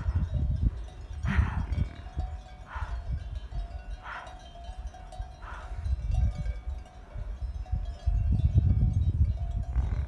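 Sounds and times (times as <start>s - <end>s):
faint bells ringing: 0.0s - 10.0s
wind buffeting microphone: 0.0s - 10.0s.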